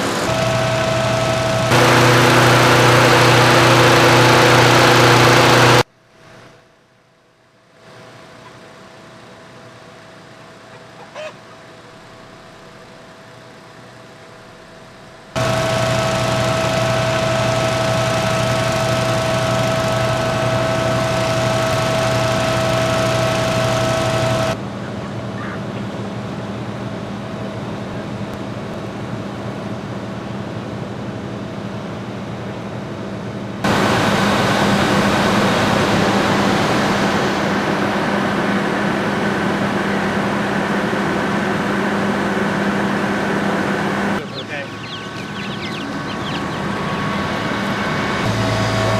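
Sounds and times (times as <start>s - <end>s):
fire truck engines humming: 0.0s - 5.9s, 14.4s - 48.9s.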